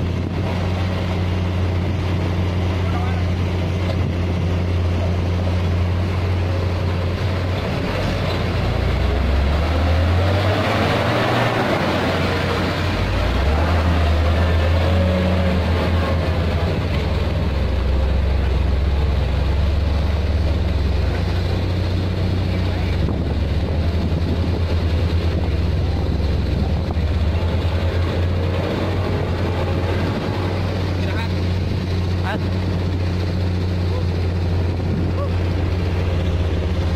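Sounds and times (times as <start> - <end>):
truck diesel engine passing: 0.0 - 36.9.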